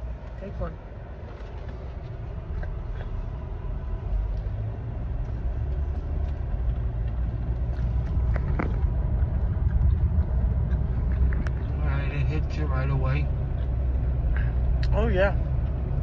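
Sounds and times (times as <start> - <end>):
car rumble inside cabin: 0.0 - 16.0.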